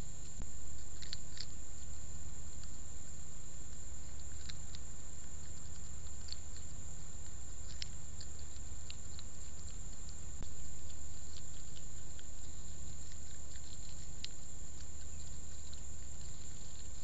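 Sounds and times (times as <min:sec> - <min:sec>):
animal chewing food: 0:00.0 - 0:17.0
steady low hum: 0:00.0 - 0:17.0.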